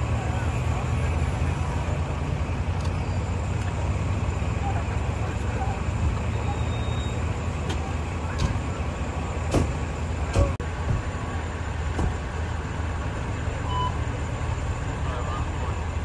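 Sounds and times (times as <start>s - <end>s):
idling vehicle engines rumble: 0.0s - 16.0s.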